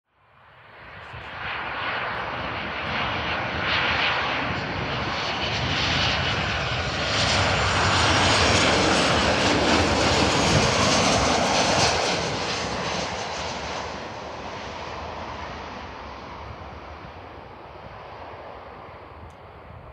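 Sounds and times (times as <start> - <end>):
jet airliner engine noise: 0.2 - 19.9.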